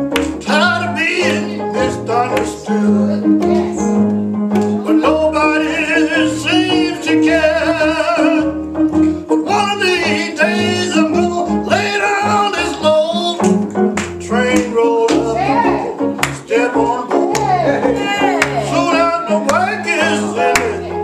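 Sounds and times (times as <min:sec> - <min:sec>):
gospel singing with vibrato: 0:00.0 - 0:21.0
guitar accompaniment: 0:00.0 - 0:21.0.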